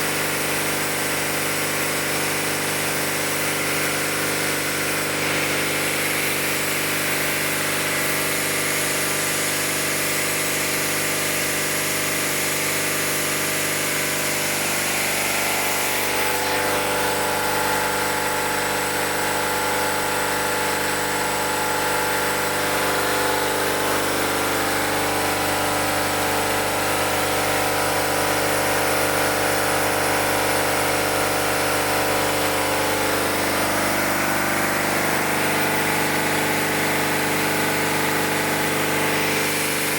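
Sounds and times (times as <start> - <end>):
pump engine running: 0.0 - 39.9.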